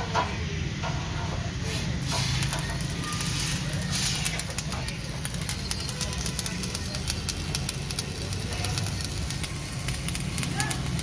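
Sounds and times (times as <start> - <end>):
arc welding hiss and crackle: 0.9 - 11.0.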